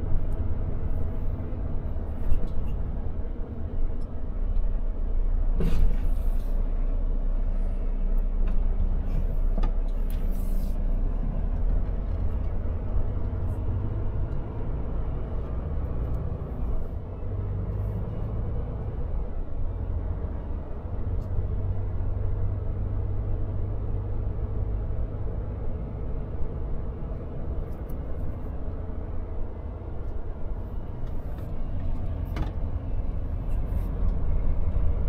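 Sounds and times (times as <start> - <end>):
truck engine drone in cab: 0.0 - 35.0.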